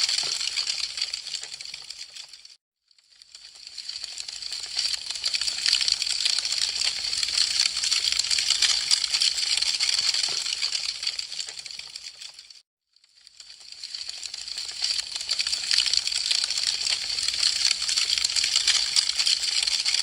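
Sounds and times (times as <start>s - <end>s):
wood fire crackling: 0.0s - 2.5s, 3.4s - 12.4s, 13.3s - 20.0s.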